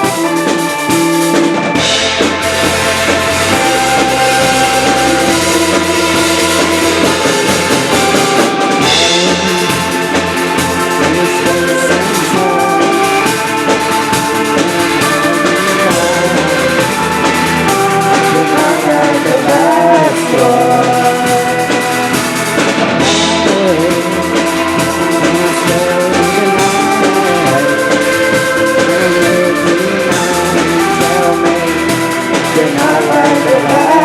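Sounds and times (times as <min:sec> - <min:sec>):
drum kit beat: 0:00.0 - 0:34.0
live band music: 0:00.0 - 0:34.0
wavering lead melody: 0:00.0 - 0:34.0.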